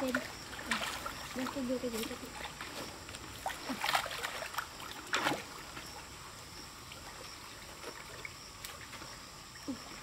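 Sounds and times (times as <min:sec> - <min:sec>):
water splashing in a pond: 0:00.0 - 0:10.0.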